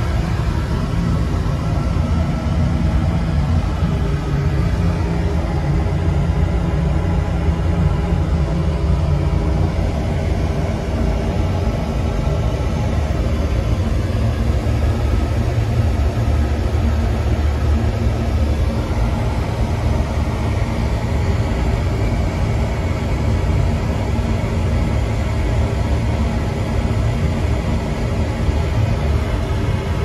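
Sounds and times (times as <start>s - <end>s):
oil burner rumbling: 0.0s - 30.0s.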